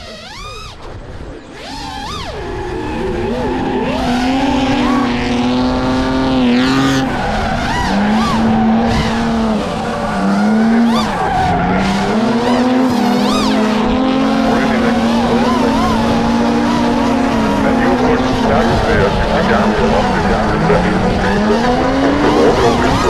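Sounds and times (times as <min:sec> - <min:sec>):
car engine at high revs: 0:00.0 - 0:23.0
tires squealing: 0:00.0 - 0:23.0.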